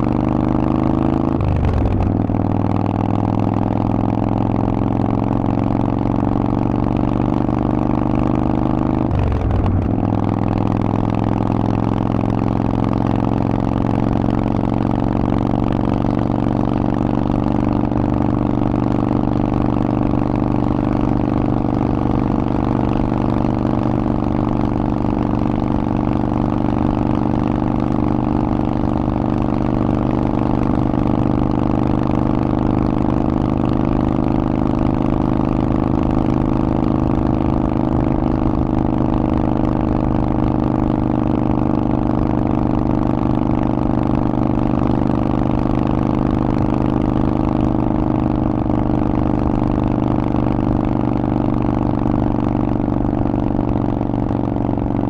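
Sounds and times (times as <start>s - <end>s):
motorcycle engine running steadily: 0.0s - 55.0s.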